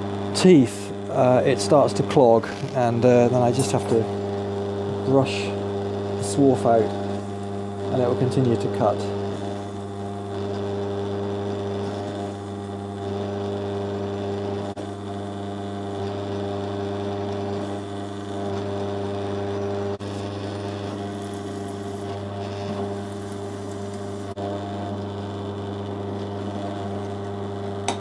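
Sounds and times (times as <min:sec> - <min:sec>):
pillar drill running: 0:00.7 - 0:28.0.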